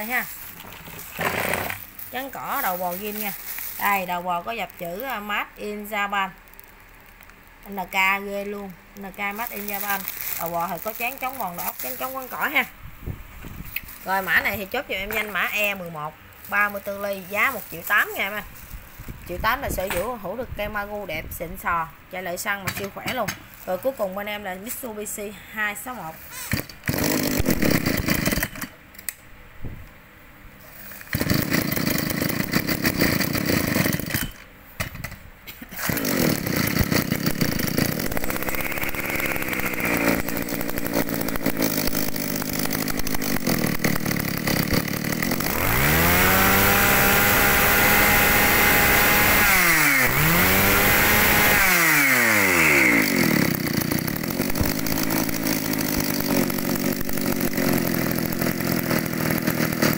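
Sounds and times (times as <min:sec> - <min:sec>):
brush cutter engine revving: 0:00.0 - 0:12.7, 0:13.6 - 0:20.2, 0:26.2 - 0:28.7, 0:30.9 - 0:34.4, 0:35.7 - 0:59.9.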